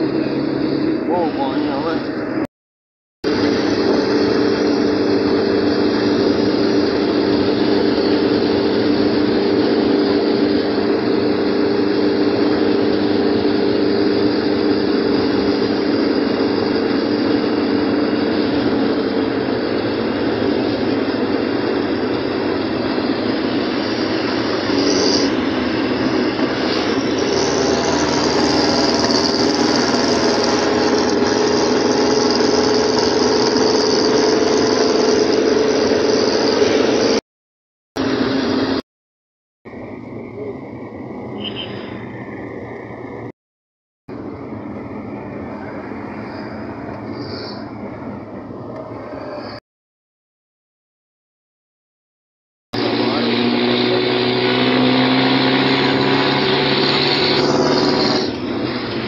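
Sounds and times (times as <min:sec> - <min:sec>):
vehicle engine and road hum: 0:00.0 - 0:02.5, 0:03.2 - 0:37.2, 0:38.0 - 0:38.8, 0:39.7 - 0:43.4, 0:44.1 - 0:49.6, 0:52.8 - 0:59.0.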